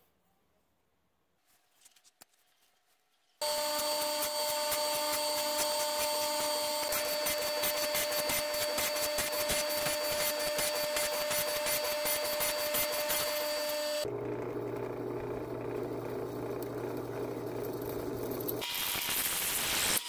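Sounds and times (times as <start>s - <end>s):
surface grinder whining: 3.4s - 20.0s.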